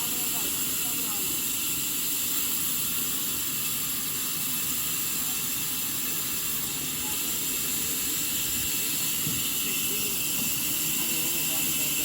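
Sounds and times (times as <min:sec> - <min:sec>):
sawmill machinery hiss: 0:00.0 - 0:12.0.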